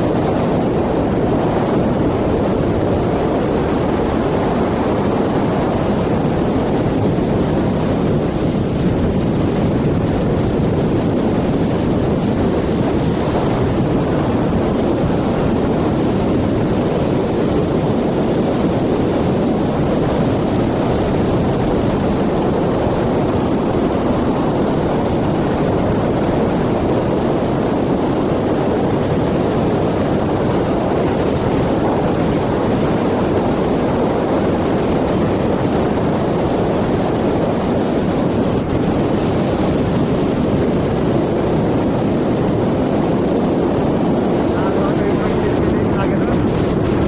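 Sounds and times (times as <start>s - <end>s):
wind noise on microphone: 0.0s - 47.0s.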